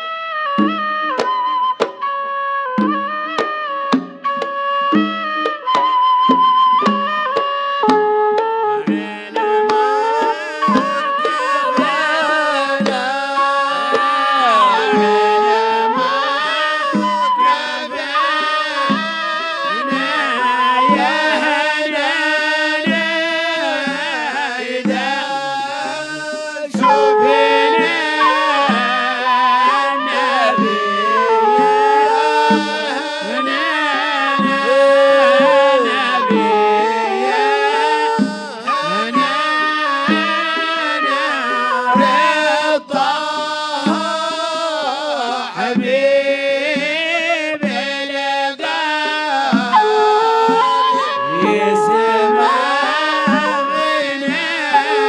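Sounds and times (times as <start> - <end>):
hand drum beats: 0.6 - 55.0
man singing ornamented melody: 8.8 - 55.0.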